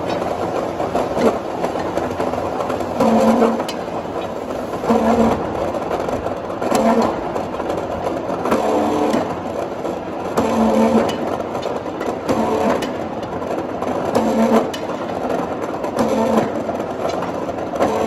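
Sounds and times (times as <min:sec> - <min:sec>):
steady machine noise: 0:00.0 - 0:18.0.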